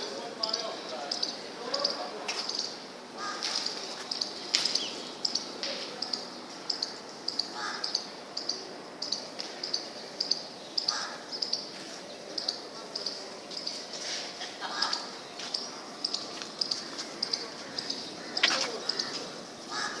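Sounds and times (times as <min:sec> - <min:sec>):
outdoor background noise: 0:00.0 - 0:20.0
small birds chirping: 0:00.0 - 0:20.0.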